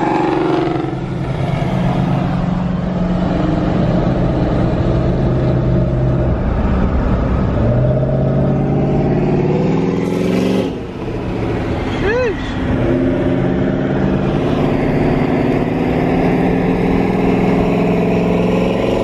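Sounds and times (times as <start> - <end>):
car engine running loudly: 0.0 - 19.0.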